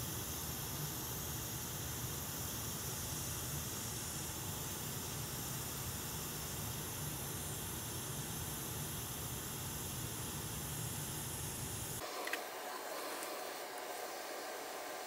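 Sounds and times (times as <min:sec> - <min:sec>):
air hiss: 0:00.0 - 0:15.0.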